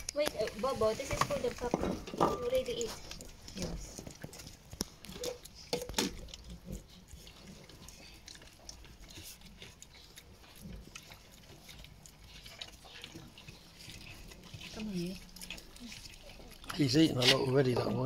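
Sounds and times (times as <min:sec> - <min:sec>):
puppies chewing wet food: 0:00.0 - 0:18.0.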